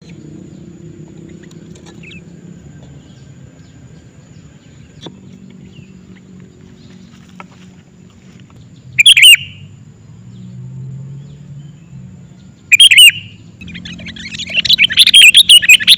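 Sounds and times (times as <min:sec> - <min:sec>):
bird chirping: 0:00.0 - 0:07.4, 0:08.4 - 0:15.9.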